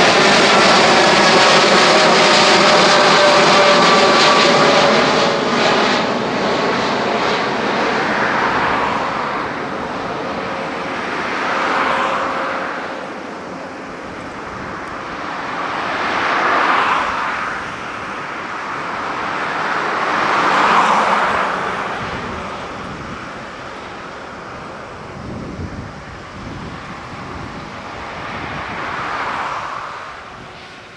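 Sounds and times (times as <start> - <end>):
jet engine rumble: 0.0 - 30.9
thin engine whine: 0.0 - 30.9.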